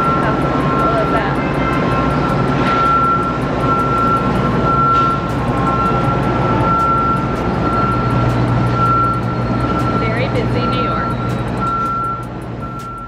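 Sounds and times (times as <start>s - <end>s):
high-pitched whine: 0.0s - 13.0s
machinery drone: 0.0s - 13.0s.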